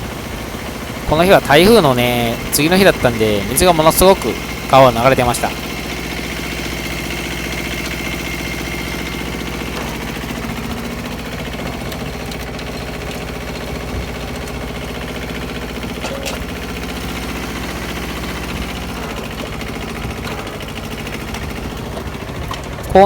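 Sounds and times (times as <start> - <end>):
rotary tiller working soil: 0.0 - 23.0
tractor engine running: 0.0 - 23.0.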